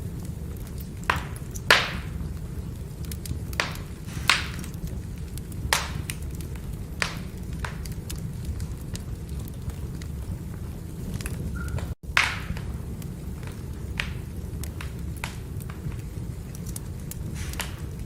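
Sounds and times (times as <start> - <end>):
firewood crackling and popping: 0.0 - 18.0
steady low rumble: 0.0 - 18.0.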